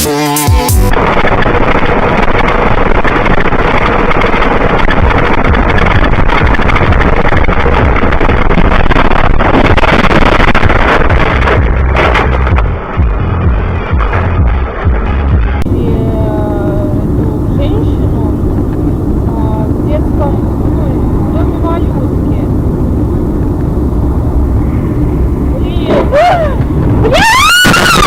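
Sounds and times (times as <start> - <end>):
vehicle engine rumble: 0.7 - 28.0
rushing wind noise: 0.9 - 28.0.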